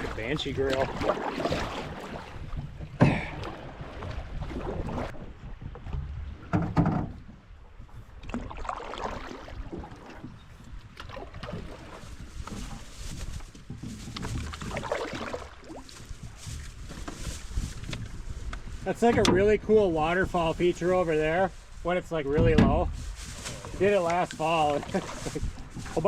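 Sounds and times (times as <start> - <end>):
canoe paddles splashing in water: 0.0 - 6.5, 7.2 - 26.0.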